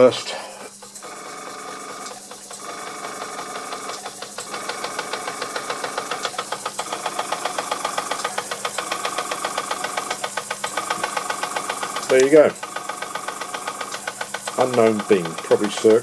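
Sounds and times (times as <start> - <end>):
toy steam engine chuffing: 0.0 - 16.0.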